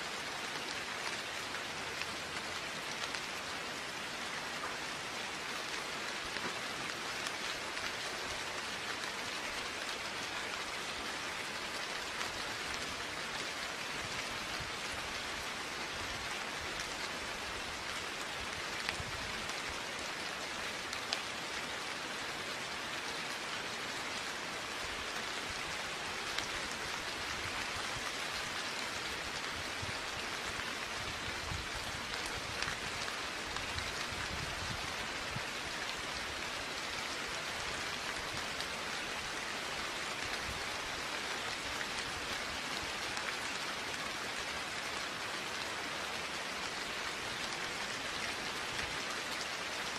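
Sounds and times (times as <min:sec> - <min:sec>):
steady rain hiss: 0:00.0 - 0:49.9.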